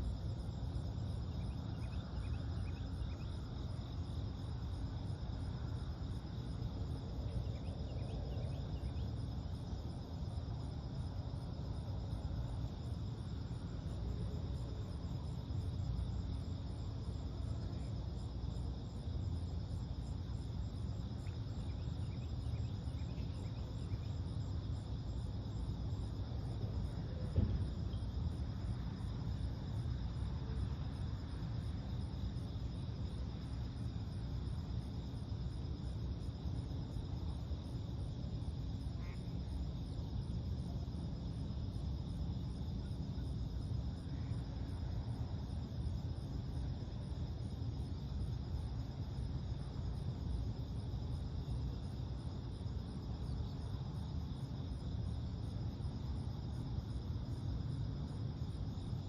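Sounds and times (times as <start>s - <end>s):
constant low rumble: 0.0s - 59.0s
crickets and insects trilling: 0.0s - 59.0s.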